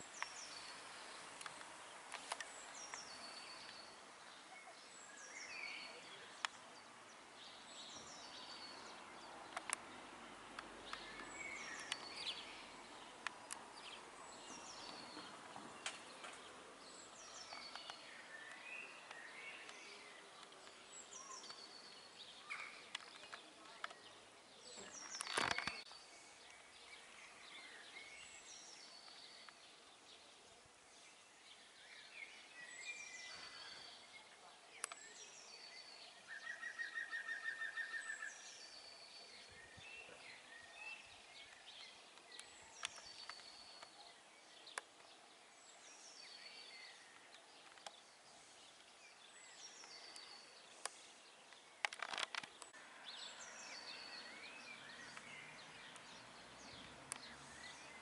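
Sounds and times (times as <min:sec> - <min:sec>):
faint background noise: 0:00.0 - 0:58.0
songbirds singing: 0:00.0 - 0:58.0.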